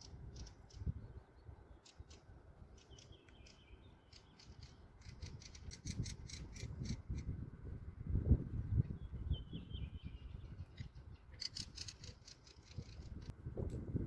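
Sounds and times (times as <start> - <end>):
small birds chirping: 0.0 - 7.3, 8.6 - 13.3.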